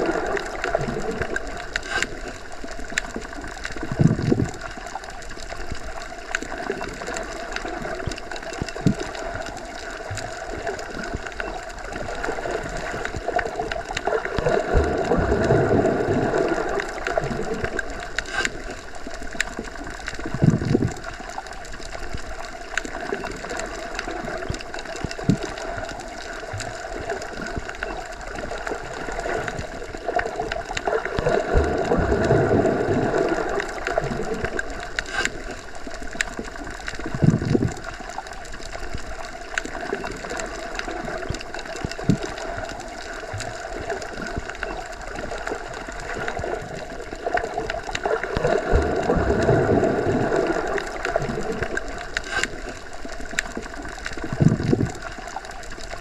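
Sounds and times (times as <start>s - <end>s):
muffled underwater wash: 0.0s - 56.0s.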